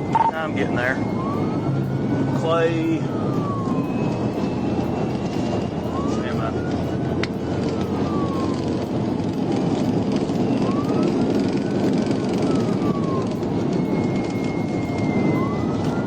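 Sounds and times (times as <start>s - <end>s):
car engine and road noise: 0.0s - 16.0s
police siren wailing: 0.0s - 16.0s.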